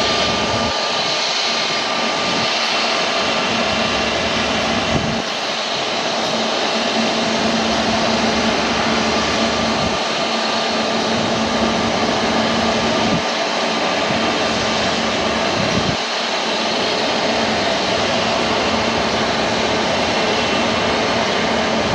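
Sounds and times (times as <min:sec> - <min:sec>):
jet engines running: 0:00.0 - 0:21.9.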